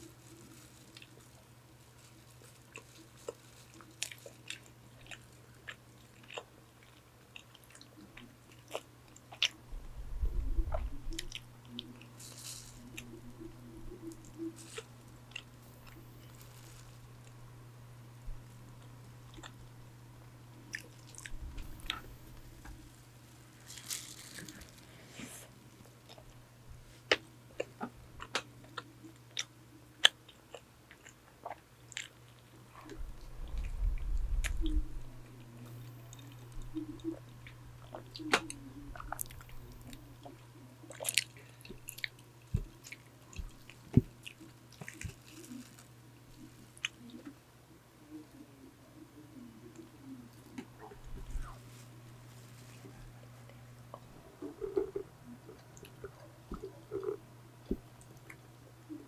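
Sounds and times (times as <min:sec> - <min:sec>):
electric fan hum: 0:00.0 - 0:59.0.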